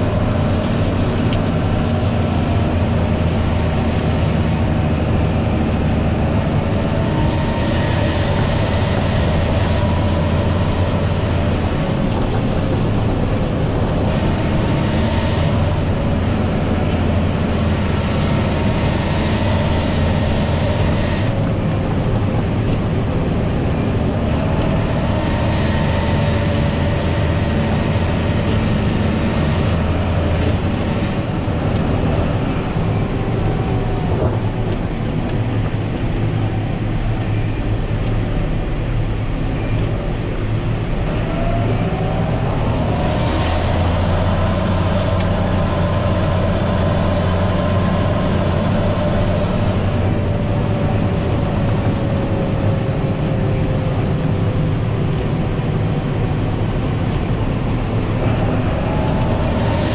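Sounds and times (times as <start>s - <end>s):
drivetrain whine: 0.0s - 59.9s
tractor diesel engine running: 0.0s - 59.9s.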